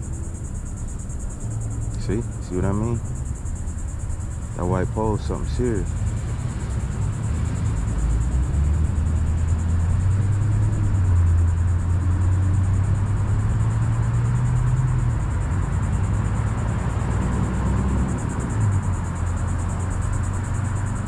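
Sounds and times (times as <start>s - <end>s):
insects trilling: 0.0s - 21.0s
passing vehicle engine rumble: 0.0s - 21.0s.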